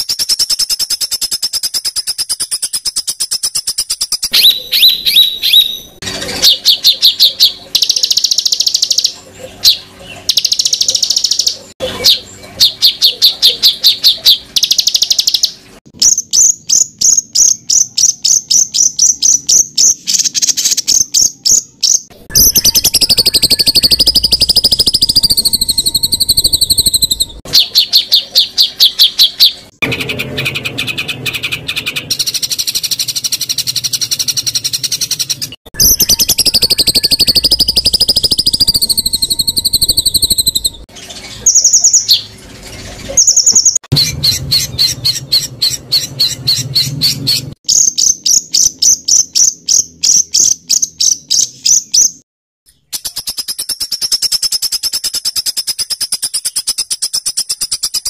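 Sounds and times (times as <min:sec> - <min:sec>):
songbirds calling: 0:00.0 - 0:58.0.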